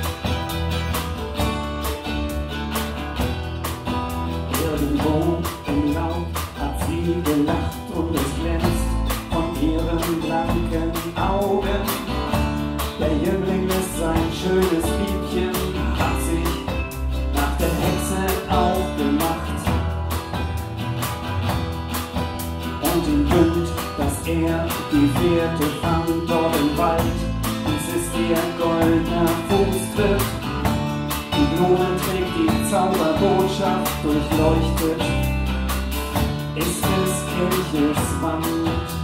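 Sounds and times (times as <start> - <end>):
drum kit steady beat: 0.0 - 39.0
electric bass: 0.0 - 39.0
strummed acoustic guitar: 0.0 - 39.0.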